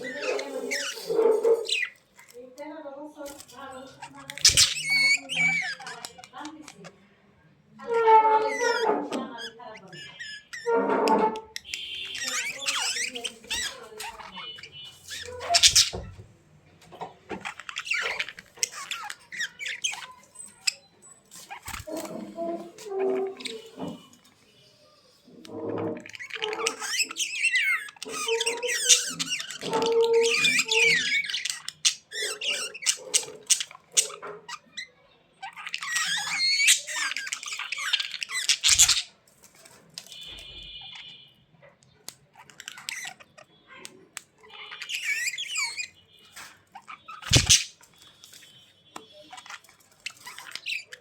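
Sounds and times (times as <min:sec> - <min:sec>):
bird chirping and squawking: 0:00.0 - 0:02.4, 0:03.2 - 0:07.1, 0:07.8 - 0:16.3, 0:17.2 - 0:41.3, 0:41.9 - 0:51.0.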